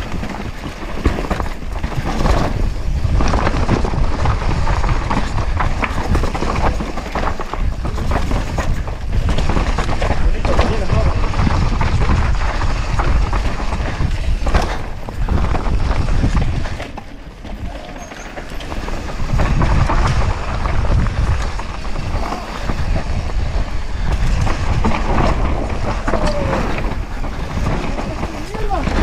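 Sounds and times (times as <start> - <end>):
bike rattling and clacking: 0.0 - 29.0
tyres crunching over dirt and stones: 0.0 - 29.0
wind rushing on microphone: 0.0 - 29.0.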